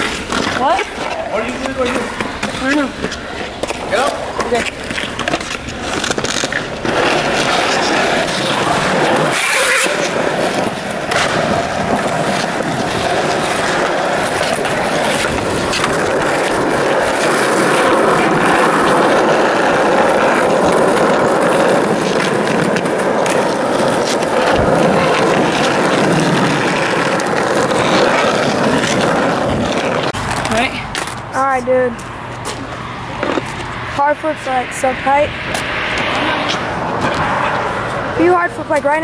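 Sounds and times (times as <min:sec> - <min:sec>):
skateboard clacks: 0:00.0 - 0:31.2, 0:35.5 - 0:39.0
skateboard wheels rolling on concrete: 0:00.0 - 0:39.0.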